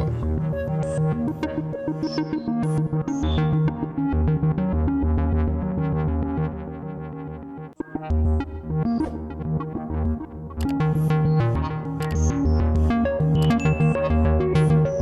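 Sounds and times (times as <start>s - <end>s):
electronic synthesizer music: 0.0s - 15.0s.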